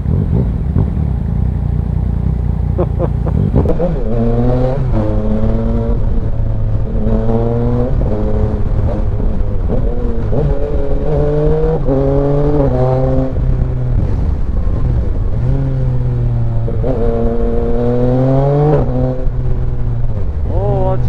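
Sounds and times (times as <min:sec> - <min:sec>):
motorcycle engine accelerating hard: 0:00.0 - 0:21.0
wind rush: 0:03.4 - 0:21.0.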